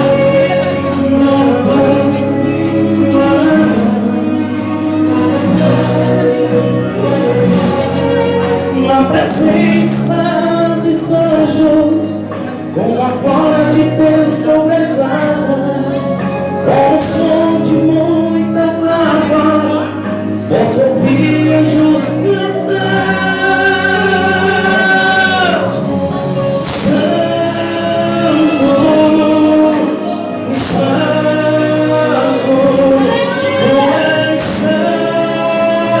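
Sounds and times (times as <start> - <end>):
instrumental backing: 0.0 - 36.0
voices singing held notes: 0.0 - 36.0.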